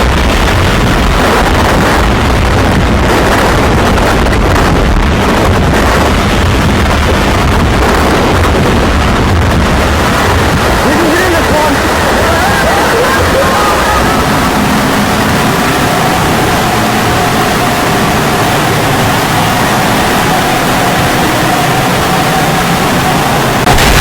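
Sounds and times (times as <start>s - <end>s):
deep rumble: 0.0s - 24.0s
wind rushing on microphone: 0.0s - 24.0s.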